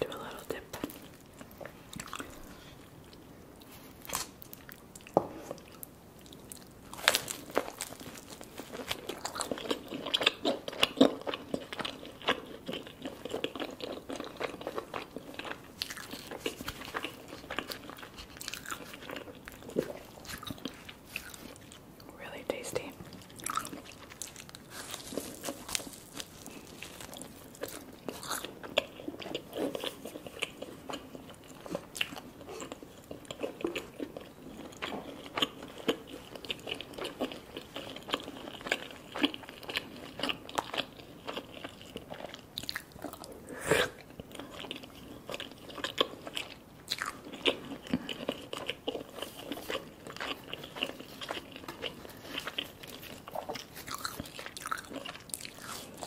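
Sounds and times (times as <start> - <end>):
person chewing food: 0.0 - 22.1, 22.8 - 56.0.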